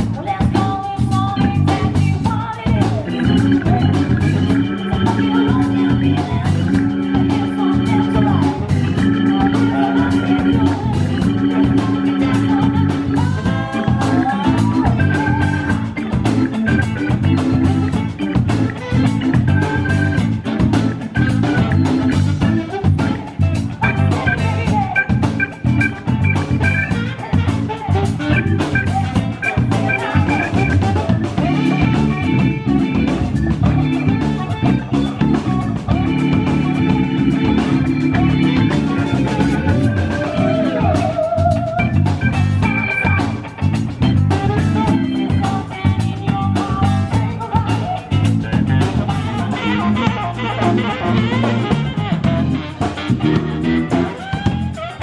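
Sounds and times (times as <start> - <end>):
drum kit: 0.0 - 55.0
electric guitars: 0.0 - 55.0
saxophone: 0.0 - 55.0.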